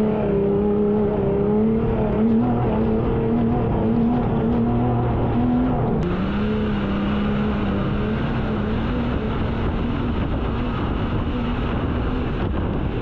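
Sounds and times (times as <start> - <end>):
truck engine running: 0.0 - 13.0
wind and road noise: 0.0 - 13.0.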